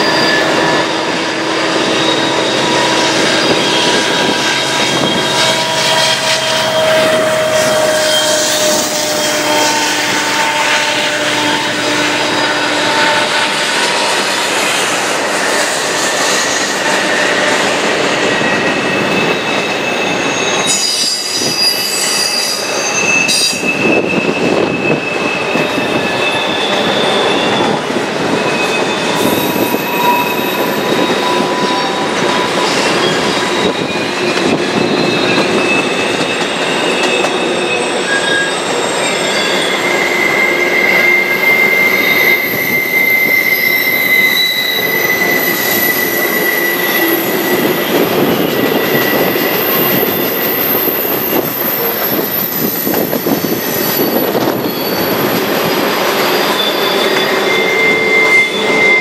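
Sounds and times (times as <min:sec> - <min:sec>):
train rumble: 0:00.0 - 0:59.0
train wheels squealing: 0:00.0 - 0:59.0.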